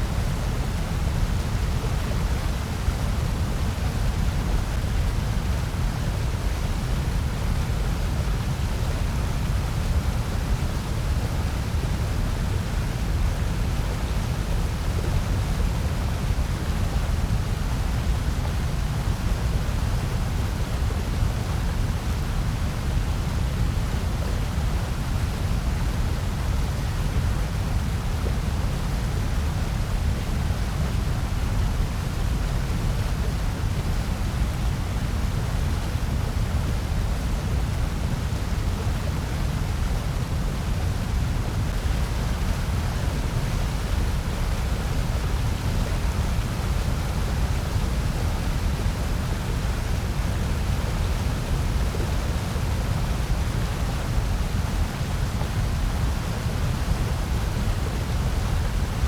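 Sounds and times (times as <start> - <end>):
bass-heavy white noise hiss: 0.0 - 59.0.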